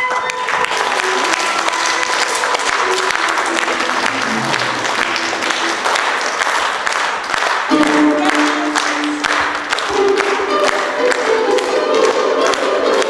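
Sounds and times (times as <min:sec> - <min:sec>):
audience applauding: 0:00.0 - 0:13.0
stage music: 0:00.0 - 0:13.0
held music notes: 0:00.2 - 0:13.0.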